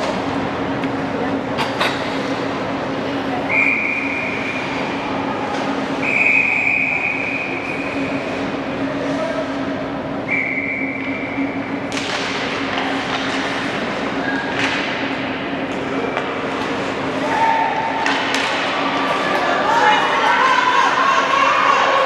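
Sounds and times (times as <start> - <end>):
steady gym hum: 0.0 - 22.0.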